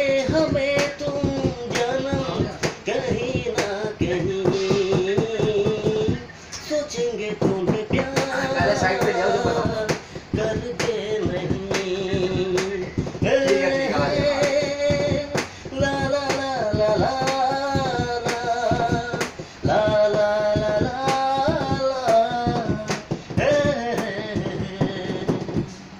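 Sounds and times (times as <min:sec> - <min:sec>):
man singing unaccompanied: 0:00.0 - 0:25.9.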